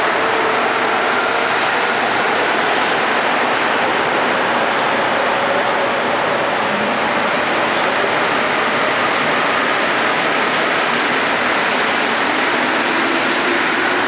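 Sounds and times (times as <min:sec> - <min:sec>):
metro train rushing: 0:00.0 - 0:14.0.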